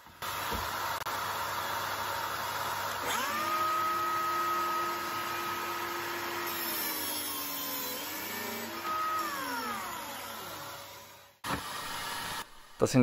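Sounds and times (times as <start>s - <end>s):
biscuit joiner motor whine: 0.2s - 12.7s.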